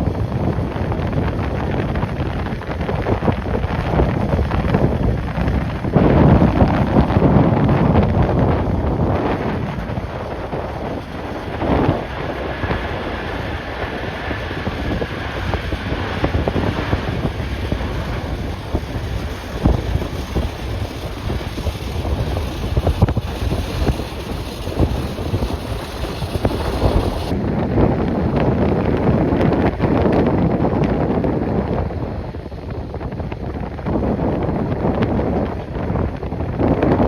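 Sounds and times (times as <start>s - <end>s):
gusty wind buffeting microphone: 0.0s - 37.0s.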